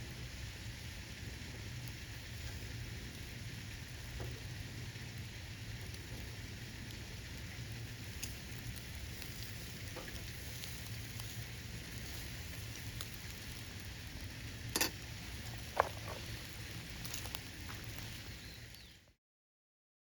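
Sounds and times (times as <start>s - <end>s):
campfire crackling pops: 0.0s - 19.0s
food sizzling: 0.0s - 19.0s.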